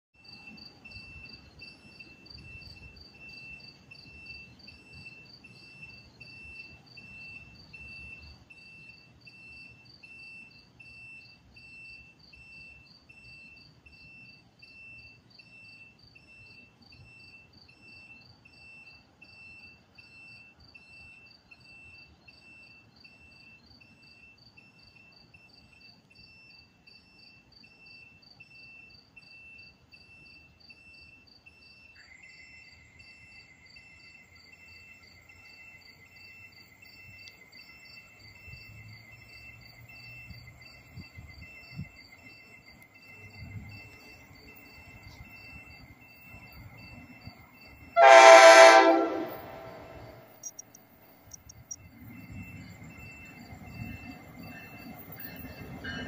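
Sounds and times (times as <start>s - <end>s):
crickets chirping: 0.2s - 56.0s.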